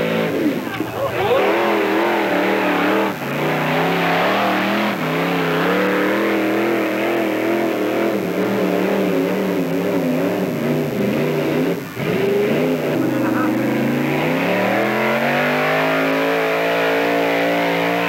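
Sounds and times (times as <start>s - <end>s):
truck engine at high revs: 0.0s - 18.0s.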